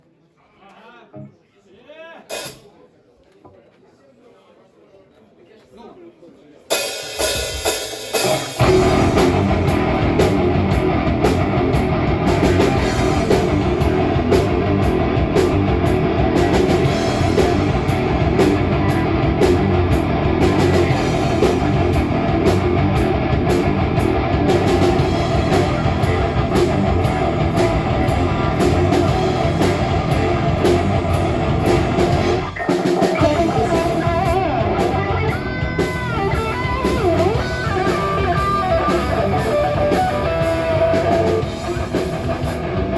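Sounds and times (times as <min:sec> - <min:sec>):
drum kit: 0:02.3 - 0:02.7, 0:06.7 - 0:42.9
electric guitars: 0:07.2 - 0:42.9.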